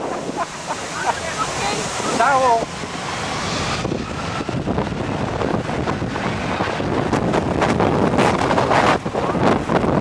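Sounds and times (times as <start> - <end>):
jet engine blast: 0.0 - 10.0
wind buffeting microphone: 0.0 - 10.0.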